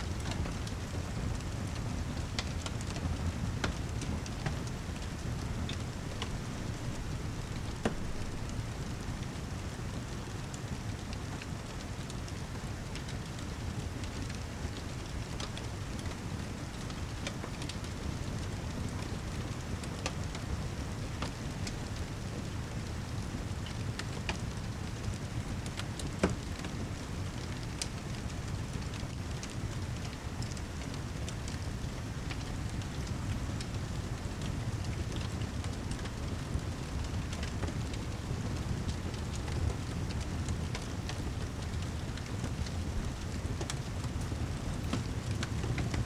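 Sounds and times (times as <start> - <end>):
fireplace crackling and popping: 0.0 - 46.0
heavy rain: 0.0 - 46.0.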